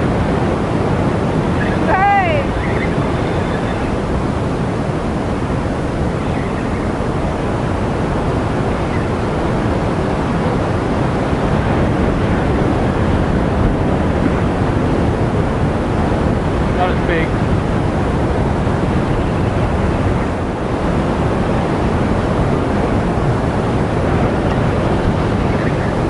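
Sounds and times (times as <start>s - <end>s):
ocean surf rushing: 0.0s - 26.0s
wind on microphone: 0.0s - 26.0s.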